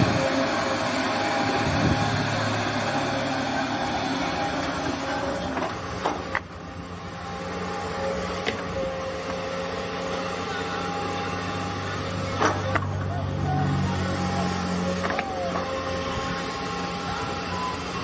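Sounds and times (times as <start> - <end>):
excavator diesel engine running: 0.0 - 18.0
machinery hum: 0.0 - 18.0.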